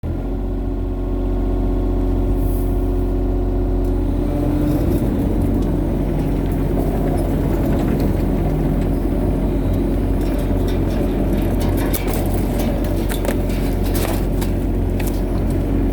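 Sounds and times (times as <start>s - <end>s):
excavator engine running: 0.0s - 15.9s.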